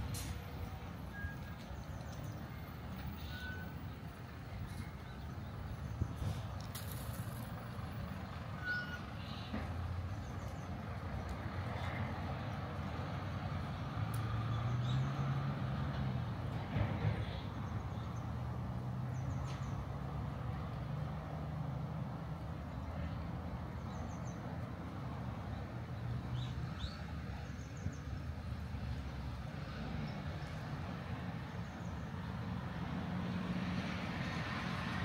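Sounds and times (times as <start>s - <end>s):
vehicle engines humming: 0.0s - 35.0s.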